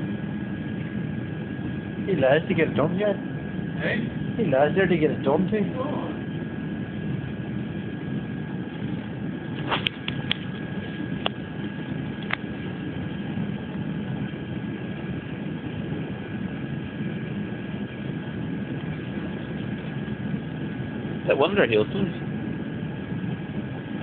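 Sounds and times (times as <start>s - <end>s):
low machine rumble: 0.0s - 24.0s
thin high whine: 0.0s - 24.0s.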